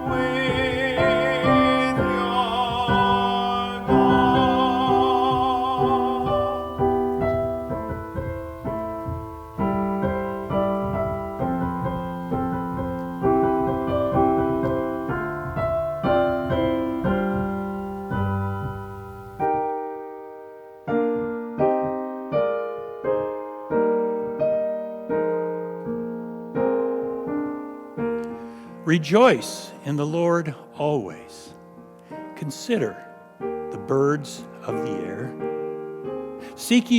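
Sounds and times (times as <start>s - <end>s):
slow solo piano chords: 0.0s - 36.9s.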